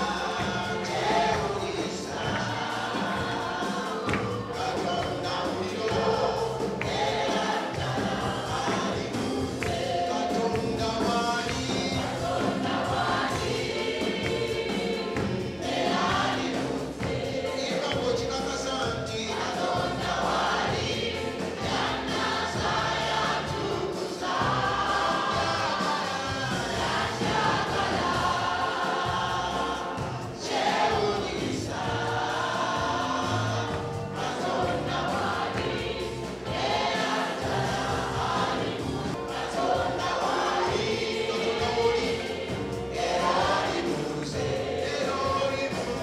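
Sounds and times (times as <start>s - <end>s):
choir singing praise song: 0.0s - 46.0s.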